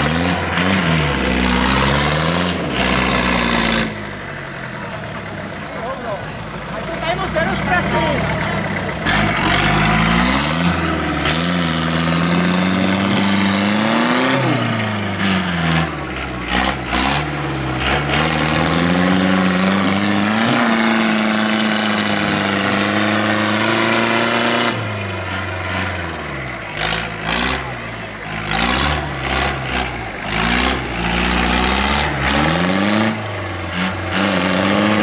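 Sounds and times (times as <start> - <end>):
tractor engine revving: 0.0 - 35.0.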